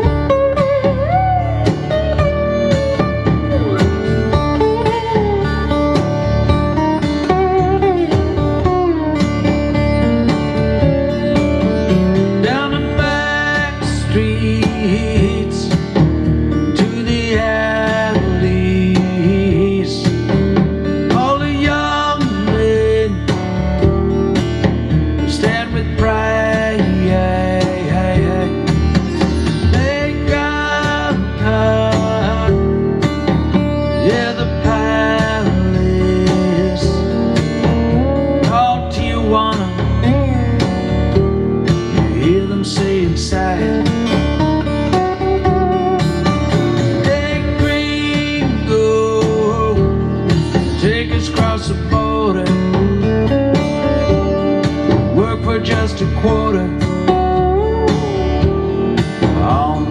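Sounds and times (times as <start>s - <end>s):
country music with guitars: 0.0s - 59.9s.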